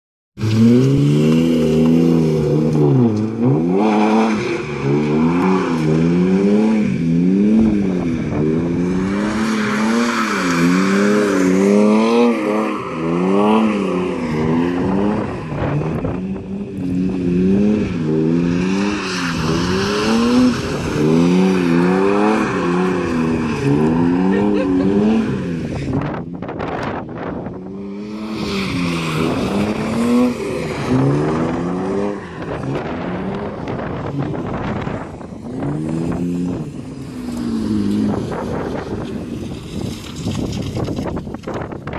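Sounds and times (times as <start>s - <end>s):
car engine revving: 0.4s - 40.6s.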